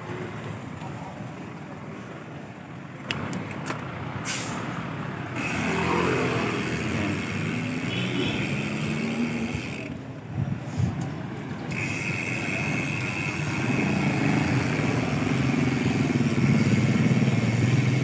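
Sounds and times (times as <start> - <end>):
road traffic: 0.0 - 18.0
vehicle engine: 0.0 - 18.0.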